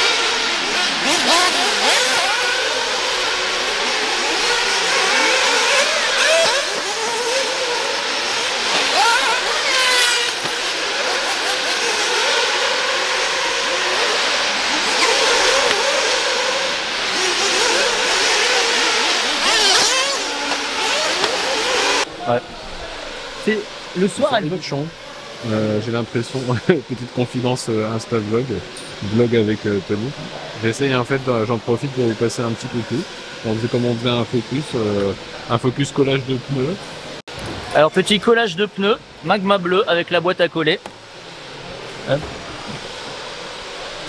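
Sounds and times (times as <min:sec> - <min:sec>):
rc car motors whining: 0:00.0 - 0:38.2, 0:40.7 - 0:44.0.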